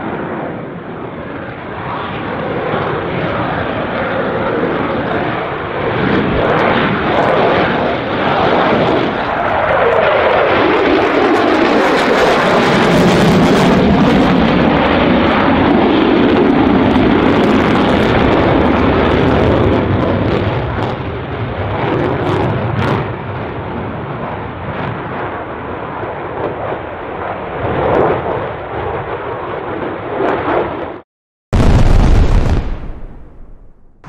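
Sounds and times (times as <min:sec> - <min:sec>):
jet engine roar: 0:00.0 - 0:31.0, 0:31.6 - 0:34.0.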